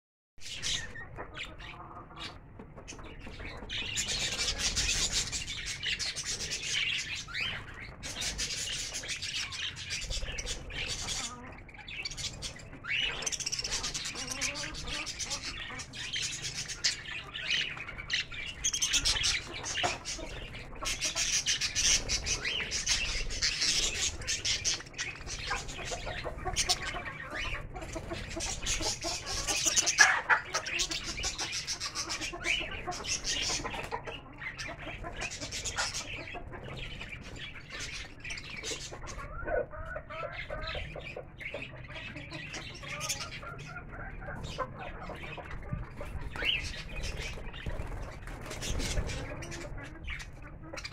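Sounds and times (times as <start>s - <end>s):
budgerigars chattering: 0.4s - 50.9s
chickens clucking: 0.4s - 50.9s.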